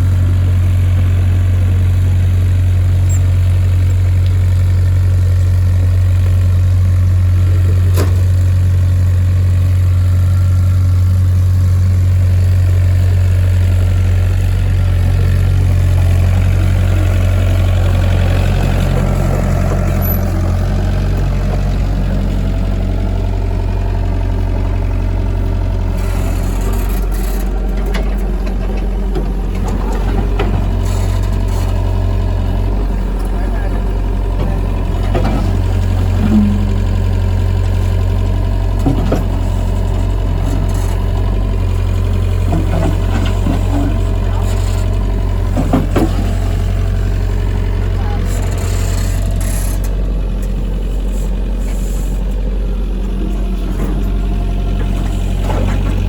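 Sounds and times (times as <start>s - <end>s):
excavator engine running: 0.0s - 56.0s.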